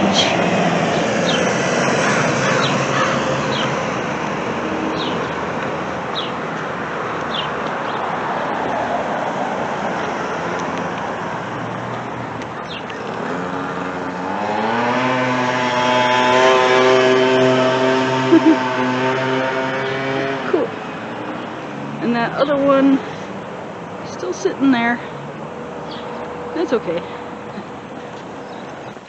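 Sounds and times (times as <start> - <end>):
vehicle engine pulling away: 0.0 - 24.0
passing road traffic: 0.0 - 29.0.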